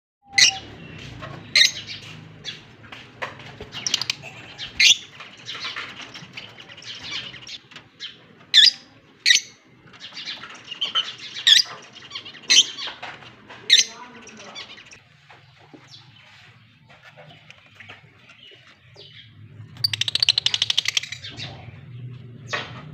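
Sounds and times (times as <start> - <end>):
lovebirds twittering: 0.2 - 22.8.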